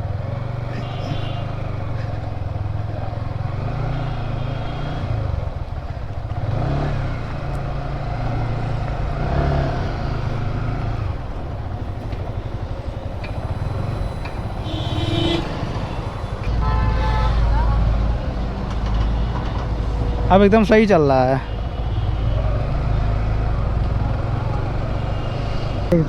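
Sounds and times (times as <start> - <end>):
motorcycle engine revving: 0.0 - 20.3, 21.4 - 26.0.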